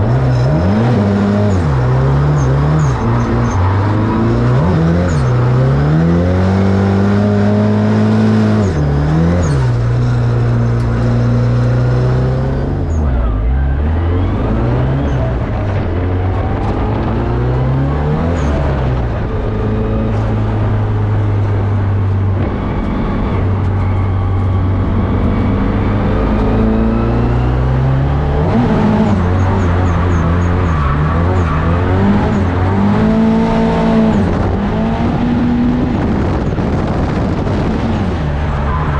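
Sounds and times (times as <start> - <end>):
car engine revving hard: 0.0 - 13.0, 13.8 - 38.7.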